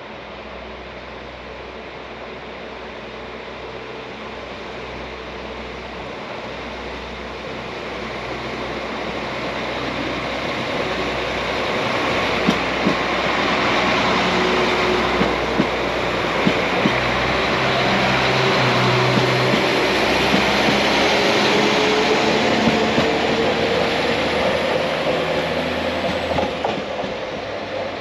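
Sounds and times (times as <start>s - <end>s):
passenger train passing: 0.0s - 28.0s.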